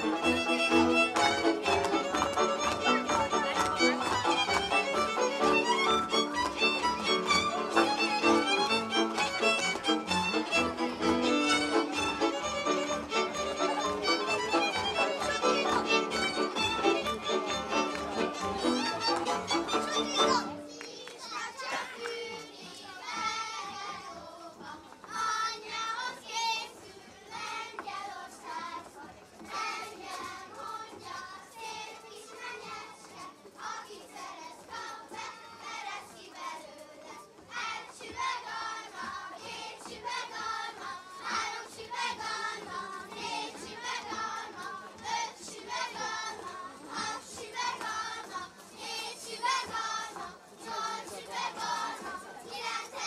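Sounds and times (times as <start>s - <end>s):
children singing folk song: 0.0s - 53.0s.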